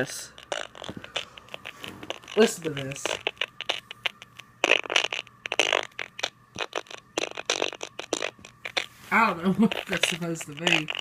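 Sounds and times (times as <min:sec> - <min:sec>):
loudspeaker crackling and sputtering: 0:00.0 - 0:11.0.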